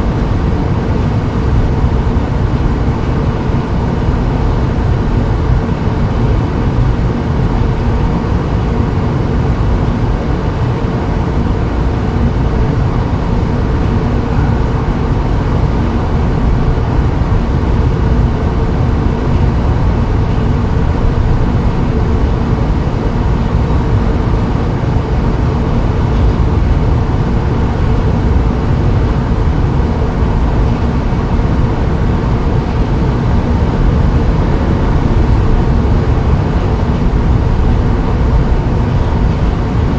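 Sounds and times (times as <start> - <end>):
faint steady hum: 0.0 - 39.9
vehicle low rumble: 0.0 - 39.9.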